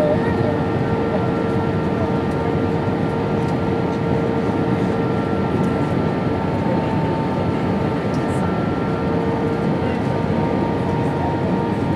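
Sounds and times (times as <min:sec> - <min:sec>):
jet engines humming: 0:00.0 - 0:11.9.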